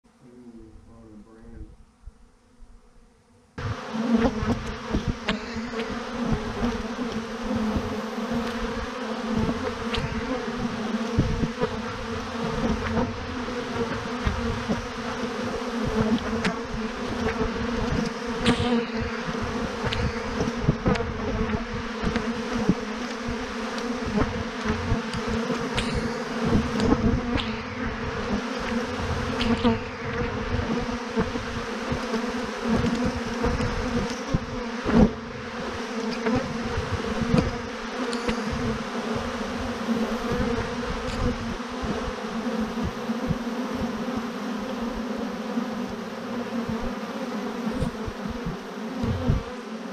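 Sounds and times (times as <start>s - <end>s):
bees buzzing: 2.0s - 49.9s
low thumps on microphone: 3.6s - 37.7s, 38.3s - 42.0s, 46.6s - 46.9s, 47.8s - 49.6s.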